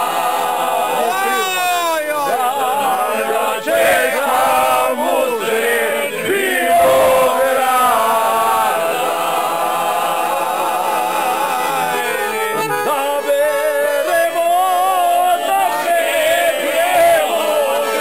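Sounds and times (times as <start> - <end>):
accordion: 0.0 - 18.0
men singing together: 0.0 - 18.0.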